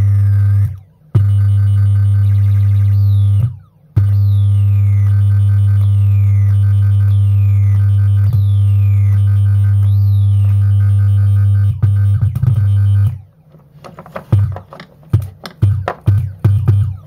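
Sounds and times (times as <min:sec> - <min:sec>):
electronic buzz with siren sweeps: 0:00.0 - 0:13.5, 0:15.1 - 0:17.0.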